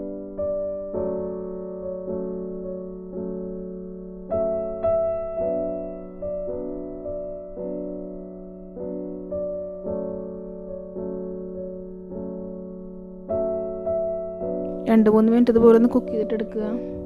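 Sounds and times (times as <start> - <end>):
soft piano melody: 0.0 - 17.0.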